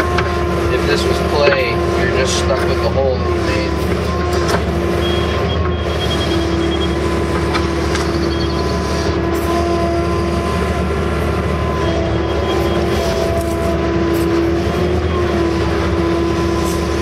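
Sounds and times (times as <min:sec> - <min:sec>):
excavator diesel engine running: 0:00.0 - 0:17.0
steady whine: 0:00.0 - 0:17.0.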